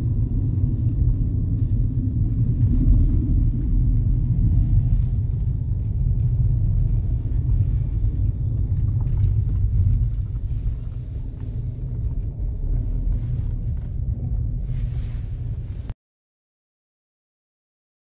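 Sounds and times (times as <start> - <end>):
car driving rumble from inside: 0.0 - 16.0.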